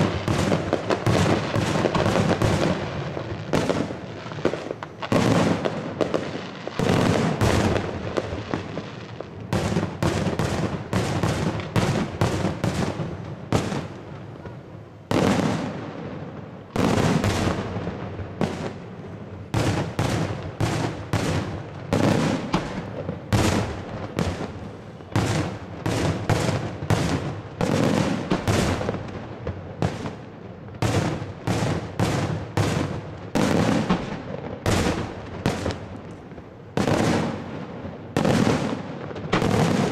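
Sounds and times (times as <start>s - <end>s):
fireworks bursting with loud bangs: 0.0s - 39.9s.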